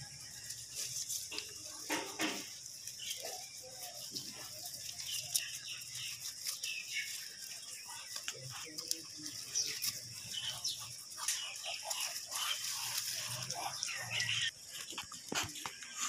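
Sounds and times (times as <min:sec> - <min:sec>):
goats chewing leafy fodder: 0:00.0 - 0:16.0
small birds chirping: 0:00.0 - 0:16.0.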